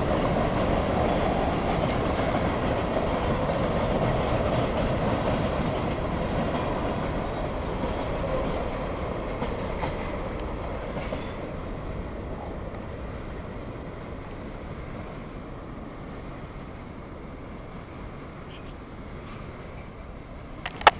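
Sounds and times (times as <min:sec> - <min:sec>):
freight train rolling on rails: 0:00.0 - 0:20.9.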